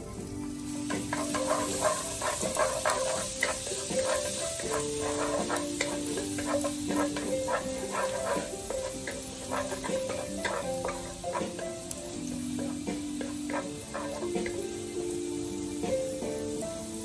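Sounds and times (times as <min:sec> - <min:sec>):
background music with held notes: 0:00.0 - 0:17.0
garlic sizzling in oil: 0:00.0 - 0:17.0
spatula scraping and tapping pan: 0:00.8 - 0:14.8.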